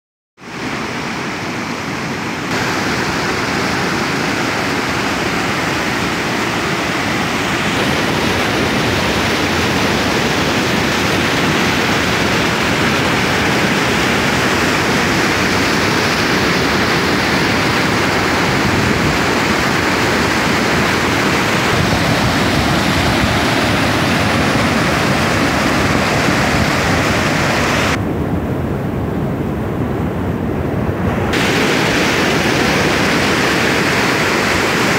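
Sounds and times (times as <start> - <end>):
river water rushing over boulders: 0.4 - 28.0, 31.1 - 34.9.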